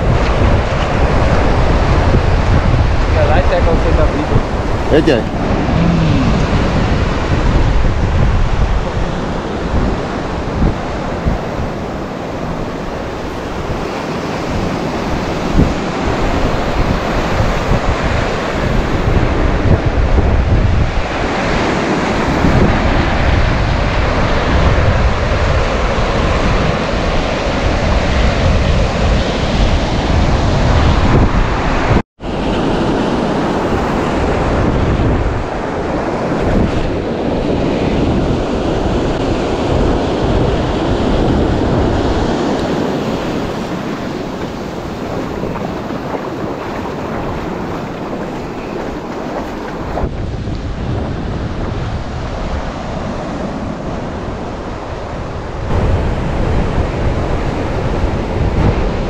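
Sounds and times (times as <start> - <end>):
surf washing on shore: 0.0 - 59.0
wind buffeting microphone: 0.0 - 59.0.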